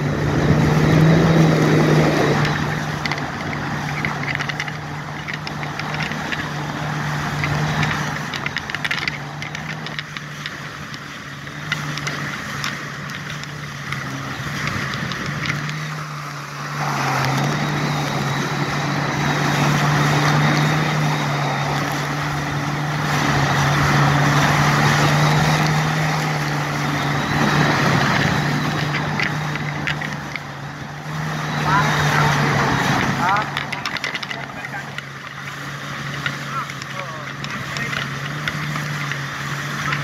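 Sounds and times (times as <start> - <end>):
jet ski engine humming: 0.0 - 40.0
water spray and wind rushing: 0.0 - 40.0.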